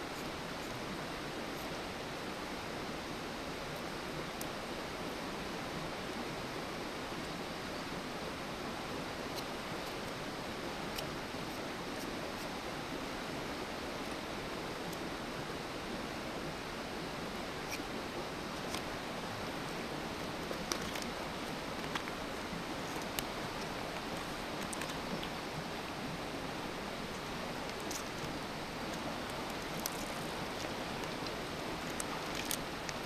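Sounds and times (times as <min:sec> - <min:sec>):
campfire hissing: 0:00.0 - 0:33.0.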